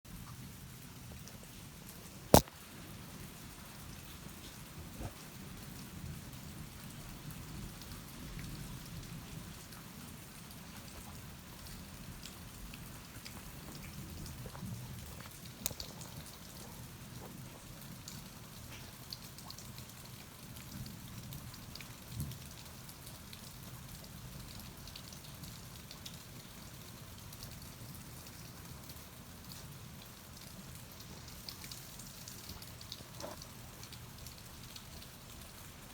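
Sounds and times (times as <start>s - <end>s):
steady rain falling: 0.1s - 35.9s
raindrops ticking: 0.2s - 35.9s.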